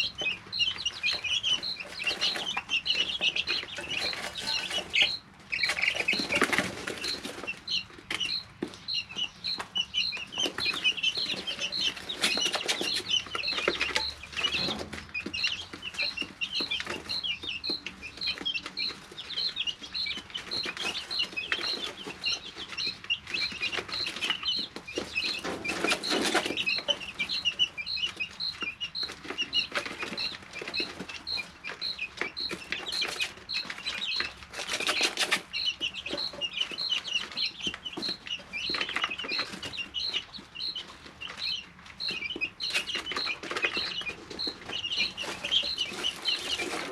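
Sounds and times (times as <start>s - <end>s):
chicks peeping and cheeping: 0.0s - 46.9s.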